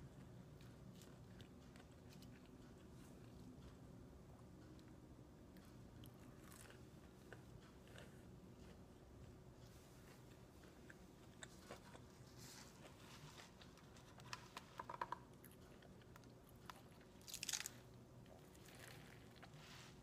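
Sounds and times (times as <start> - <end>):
close-up chewing: 0.0 - 3.9, 4.6 - 20.0.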